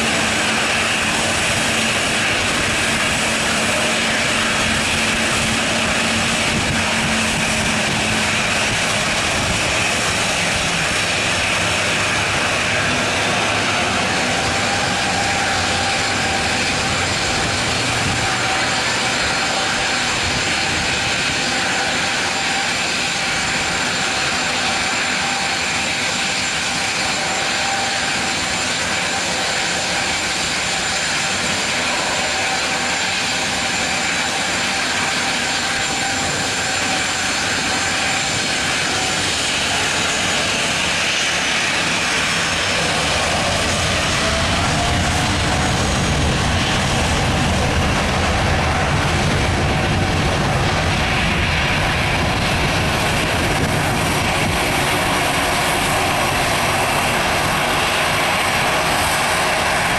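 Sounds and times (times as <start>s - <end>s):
jet engines whining: 0.0s - 59.9s
rushing noise: 0.0s - 59.9s.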